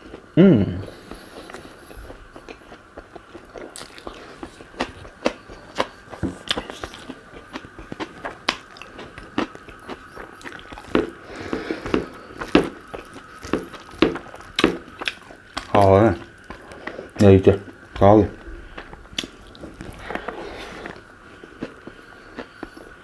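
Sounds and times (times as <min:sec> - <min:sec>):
faint steady hum: 0:00.0 - 0:23.0
person chewing: 0:00.0 - 0:23.0.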